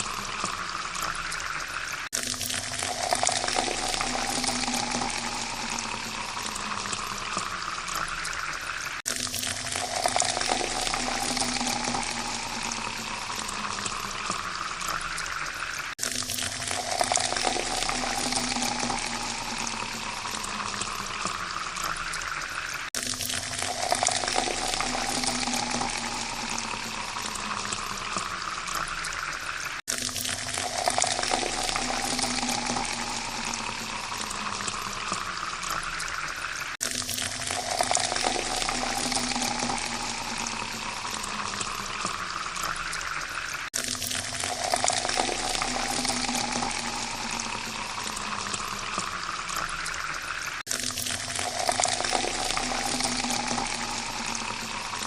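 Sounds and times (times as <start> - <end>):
water pouring into a glass: 0.0 - 55.0.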